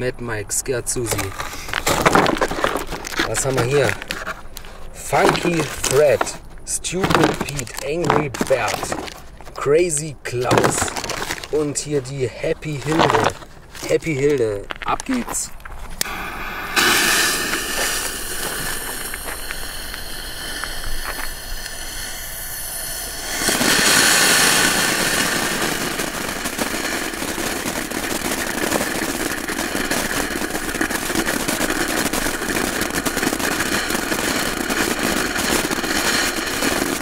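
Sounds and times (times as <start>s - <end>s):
ground fountain firework hissing: 0.5s - 37.0s.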